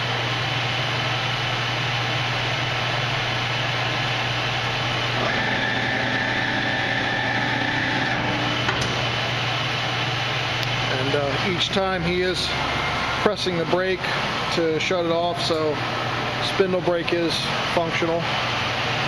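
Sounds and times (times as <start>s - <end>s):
lathe running with gear noise: 2.3s - 19.0s.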